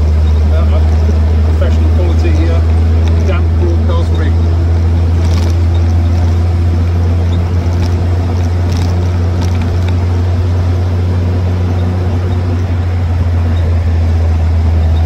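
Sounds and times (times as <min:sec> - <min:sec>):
engine low drone: 0:00.0 - 0:15.0.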